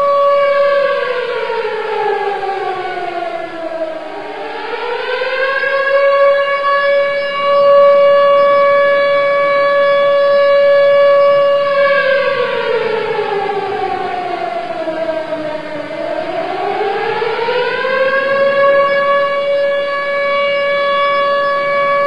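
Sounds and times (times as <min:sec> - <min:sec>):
civil defense siren wailing: 0:00.0 - 0:22.0.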